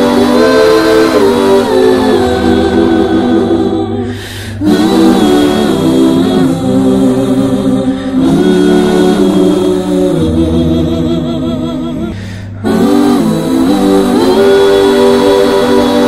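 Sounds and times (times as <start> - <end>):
group of voices singing chords: 0.0 - 16.0
low bass line: 0.0 - 16.0.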